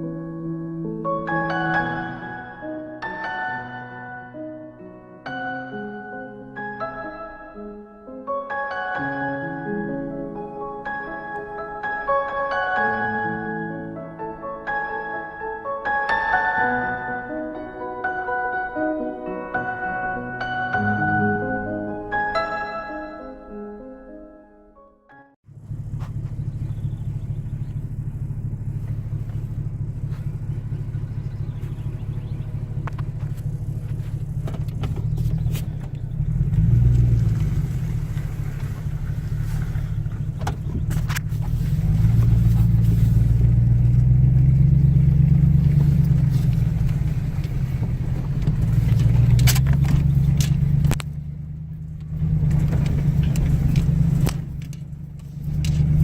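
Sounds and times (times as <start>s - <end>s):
car engine and road noise: 0.0s - 23.2s, 25.4s - 56.0s.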